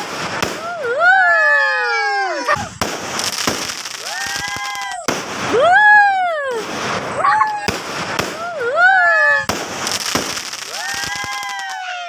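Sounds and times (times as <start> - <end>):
whistling firework shells: 0.0 - 1.6, 2.4 - 12.0
firework bursts cracking: 0.0 - 12.0.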